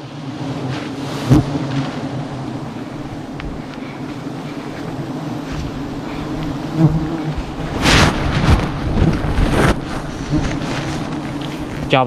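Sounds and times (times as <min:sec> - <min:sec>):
honey bees buzzing: 0:00.0 - 0:12.0
rustling and handling noise: 0:01.6 - 0:06.6, 0:07.3 - 0:12.0.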